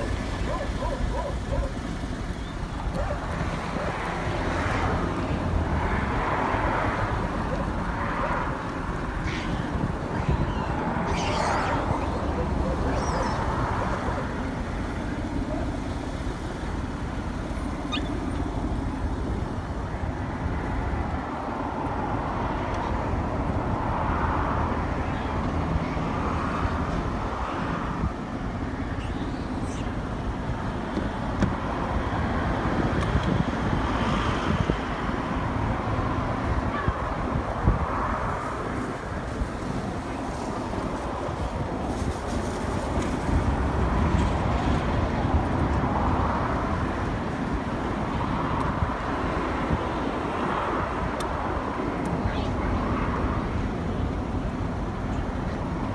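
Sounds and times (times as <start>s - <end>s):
outdoor background rumble: 0.0s - 55.9s.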